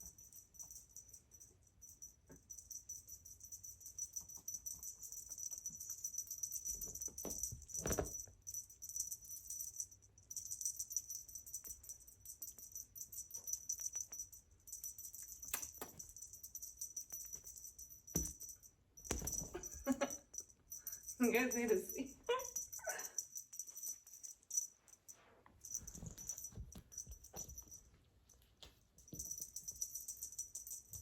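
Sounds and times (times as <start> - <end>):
small bell jingling: 0.0 - 31.0.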